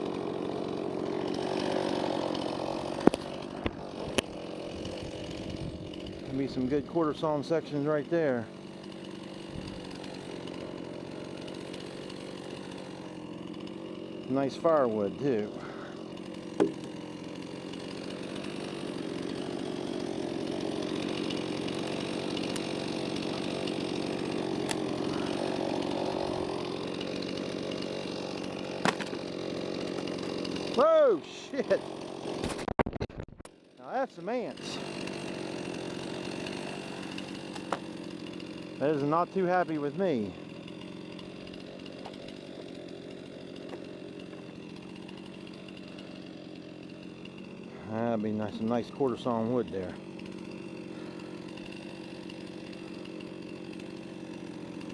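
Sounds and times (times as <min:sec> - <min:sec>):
chainsaw cutting log: 0:00.0 - 0:54.9.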